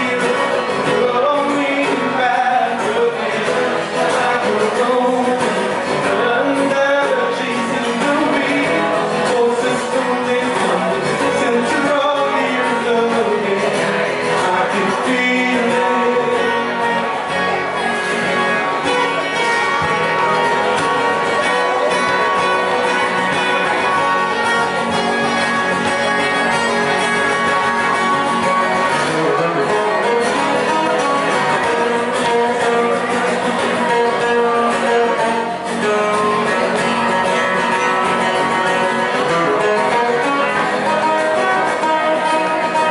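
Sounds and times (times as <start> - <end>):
live rock band playing: 0.0 - 42.9
person singing: 0.0 - 42.9.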